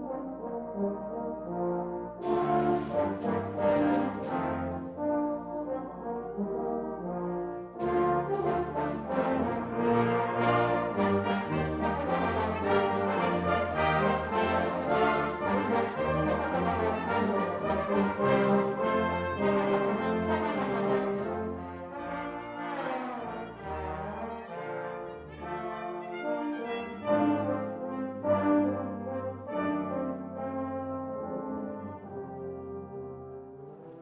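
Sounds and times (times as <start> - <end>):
orchestral film music: 0.0 - 34.0.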